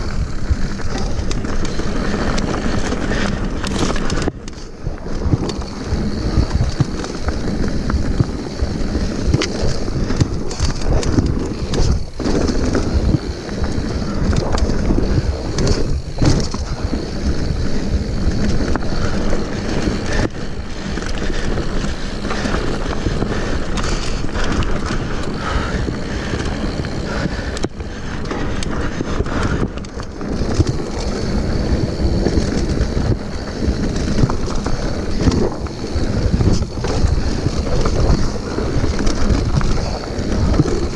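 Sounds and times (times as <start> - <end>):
bike knocking and rattling: 0.0 - 40.9
tyres crunching over gravel: 0.0 - 40.9
wind buffeting microphone: 0.0 - 40.9.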